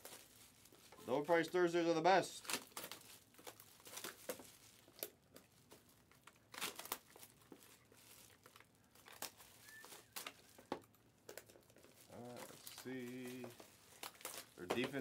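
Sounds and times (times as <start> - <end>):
plastic wrap crinkling and tearing: 0.0 - 15.0.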